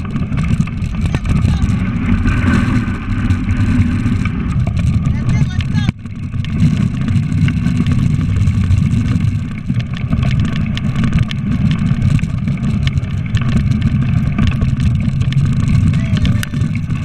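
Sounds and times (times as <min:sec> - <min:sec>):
sled runners rumbling on snow: 0:00.0 - 0:17.0
ticks and scrapes: 0:00.0 - 0:17.0
wind on camera: 0:00.0 - 0:17.0.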